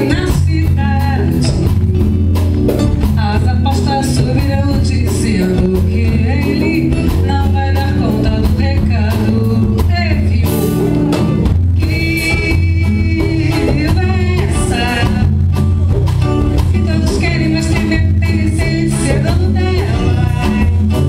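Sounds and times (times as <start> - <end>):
person singing: 0.0 - 2.2, 3.1 - 15.7, 16.6 - 21.0
live band music: 0.0 - 21.0.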